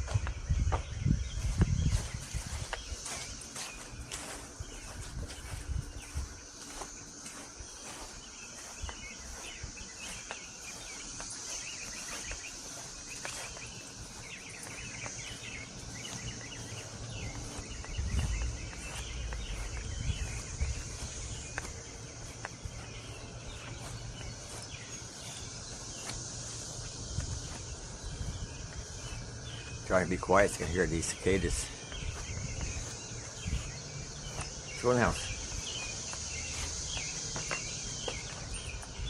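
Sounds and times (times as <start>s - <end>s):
birds chirping: 0.0s - 39.0s
cicadas droning: 0.0s - 39.0s.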